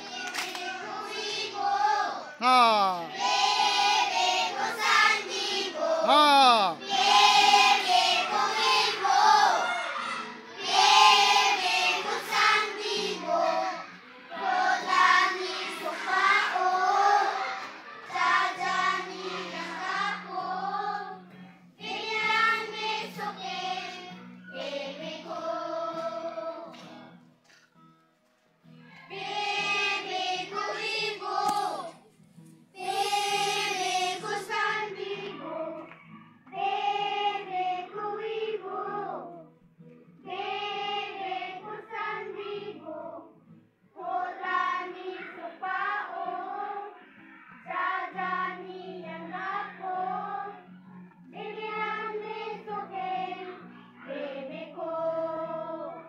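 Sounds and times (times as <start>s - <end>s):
children singing in unison: 0.0s - 26.8s, 29.0s - 31.9s, 32.8s - 39.4s, 40.2s - 43.4s, 44.0s - 56.0s.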